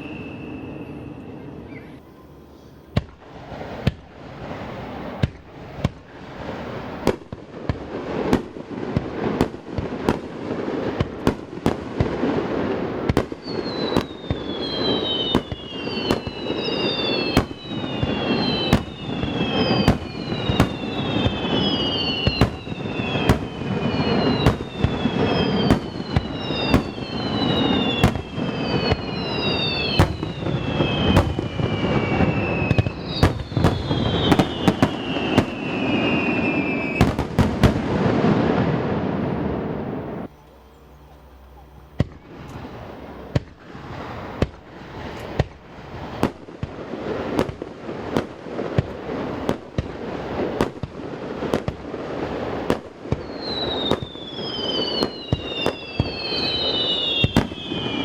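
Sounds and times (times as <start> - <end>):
falling firework whistles: 0.0 - 58.0
fireworks bursts and bangs: 2.9 - 40.3, 42.0 - 58.0.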